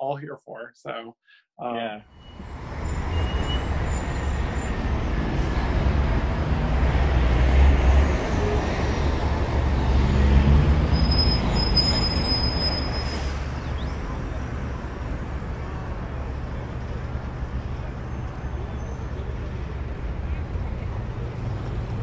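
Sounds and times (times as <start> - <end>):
traffic rumble with hiss: 2.4 - 22.0.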